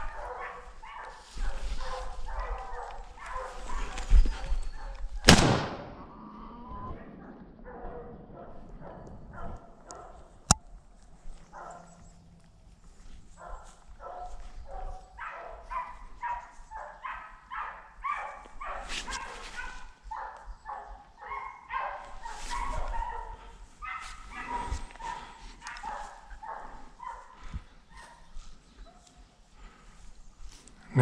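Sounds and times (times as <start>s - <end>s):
hunting dogs barking: 0.0s - 5.2s, 7.2s - 10.4s, 11.4s - 12.1s, 13.4s - 29.8s.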